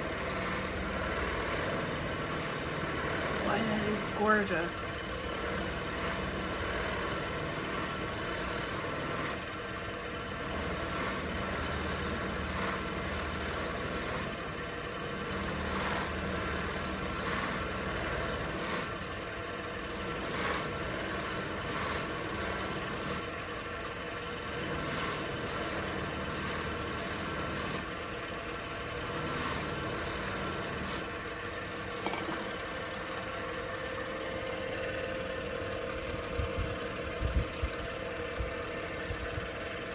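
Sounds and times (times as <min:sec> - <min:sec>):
lathe motor humming: 0:00.0 - 0:39.9.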